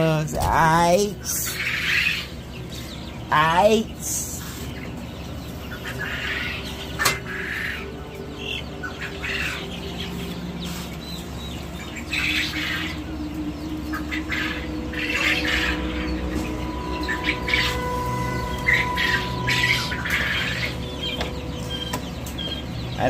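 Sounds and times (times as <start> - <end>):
chickens squawking and chirping: 0.0 - 23.0.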